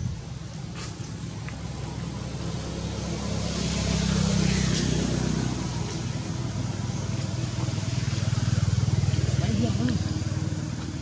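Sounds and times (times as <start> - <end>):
vehicle engine passing: 0.6 - 11.0.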